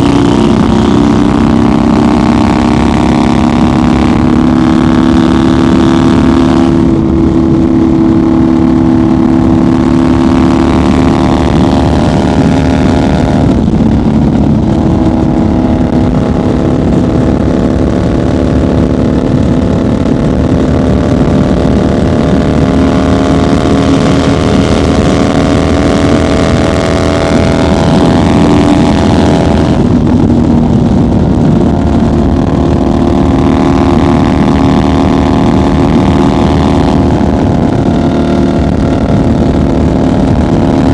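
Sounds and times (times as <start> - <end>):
motorcycle exhaust cruising: 0.0 - 40.9.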